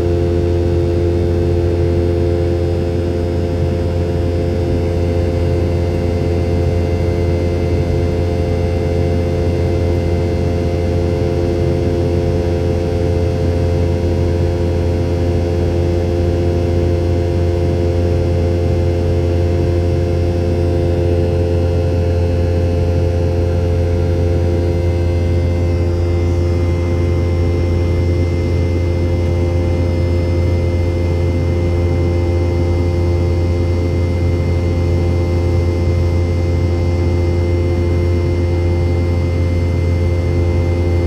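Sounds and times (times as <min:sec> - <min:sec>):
aircraft cabin engine drone: 0:00.0 - 0:41.0.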